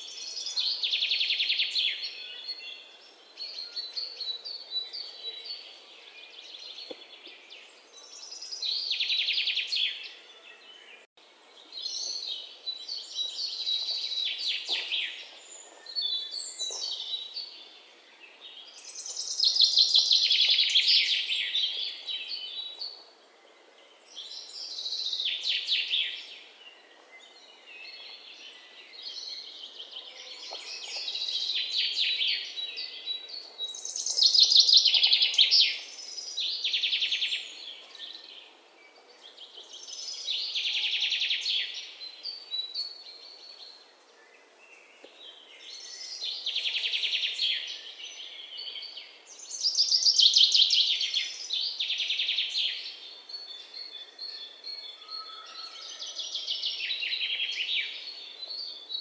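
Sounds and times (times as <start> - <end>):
songbirds singing trilled chirps: 0.0 - 59.0.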